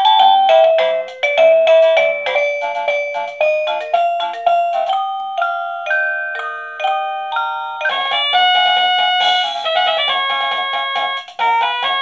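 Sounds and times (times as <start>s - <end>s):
doorbell chime melody: 0.0s - 12.0s.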